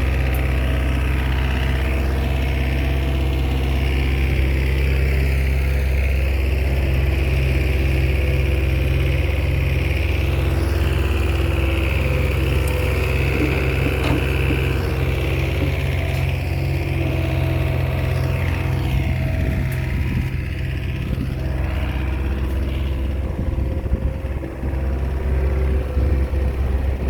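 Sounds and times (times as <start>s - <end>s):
bulldozer diesel engine droning: 0.0s - 27.0s.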